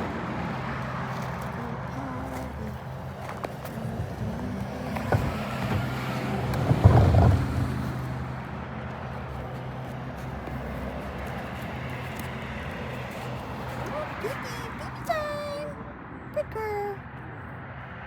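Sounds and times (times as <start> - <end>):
motor vehicle humming: 0.0 - 18.0.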